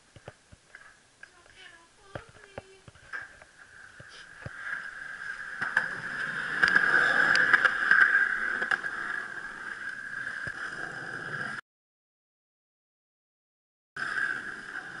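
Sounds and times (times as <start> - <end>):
skateboard wheels rolling on concrete: 0.0 - 11.6, 14.0 - 15.0.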